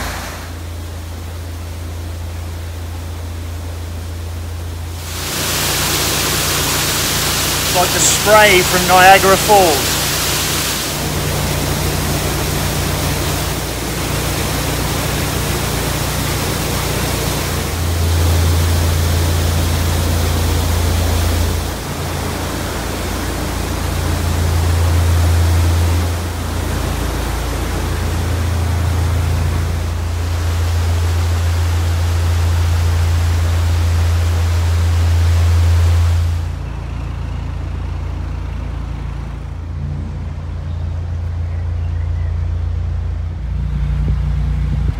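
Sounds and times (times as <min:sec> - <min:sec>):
water rushing from lock gates: 0:00.0 - 0:44.6
boat engine humming: 0:00.0 - 0:44.9.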